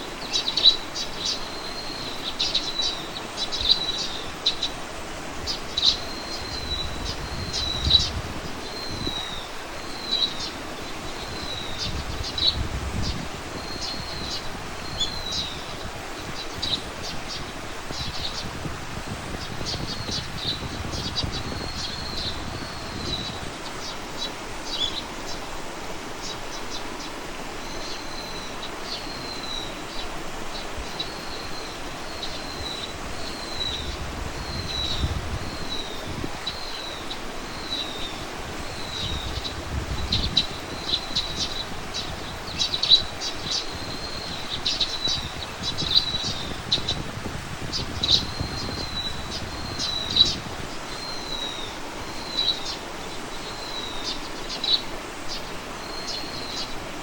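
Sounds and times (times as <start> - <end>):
small birds chirping: 0.0 - 57.0
wind through foliage: 0.0 - 57.0.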